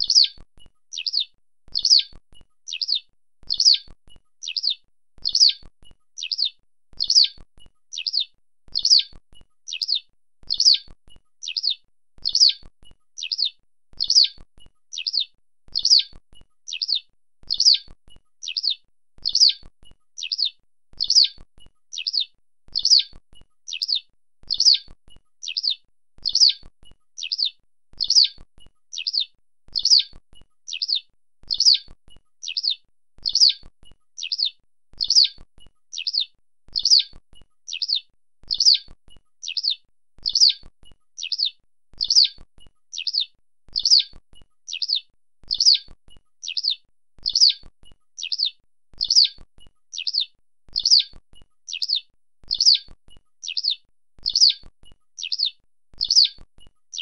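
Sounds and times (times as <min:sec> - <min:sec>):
skylark high chirps: 0:00.0 - 0:57.0.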